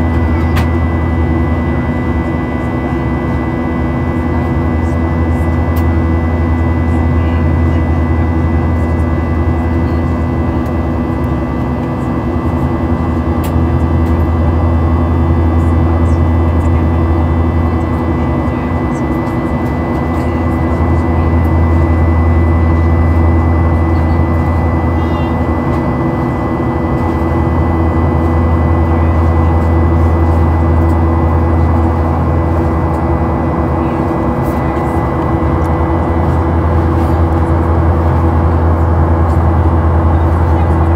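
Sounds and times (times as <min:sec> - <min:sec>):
aircraft cabin engine rumble: 0:00.0 - 0:40.9
steady hums: 0:00.0 - 0:40.9.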